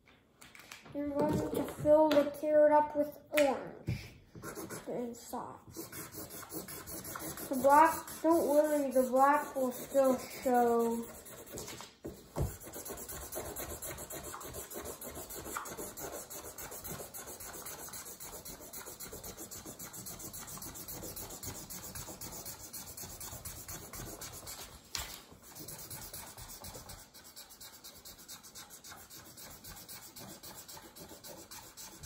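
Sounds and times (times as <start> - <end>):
marker scrape: 3.9 - 32.0
marker scribbling on paper: 3.9 - 32.0.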